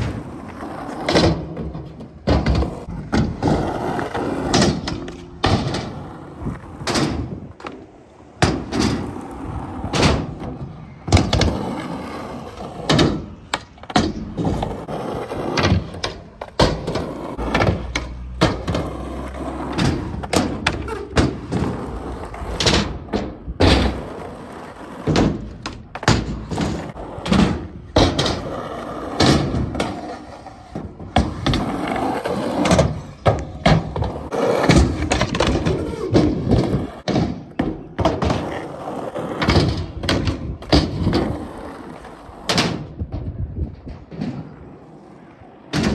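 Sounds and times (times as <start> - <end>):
skateboard clacks and thuds: 0.0 - 45.9
skateboard wheels rolling: 0.0 - 45.9.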